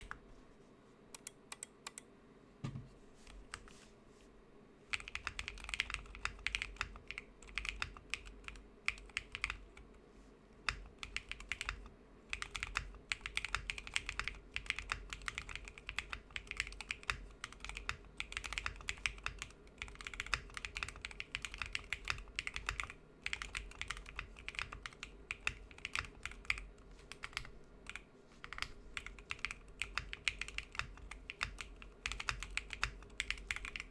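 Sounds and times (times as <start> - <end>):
mechanical keyboard typing: 4.9 - 9.8, 10.7 - 33.9.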